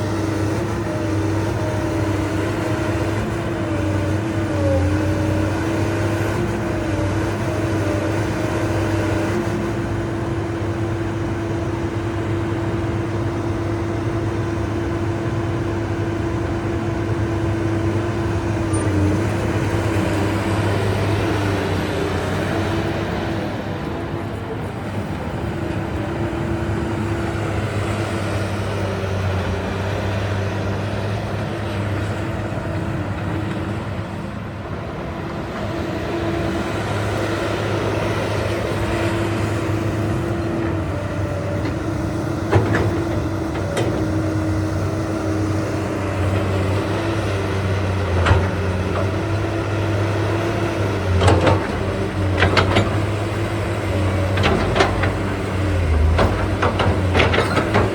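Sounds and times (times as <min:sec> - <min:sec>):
excavator engine humming: 0:00.0 - 0:57.9.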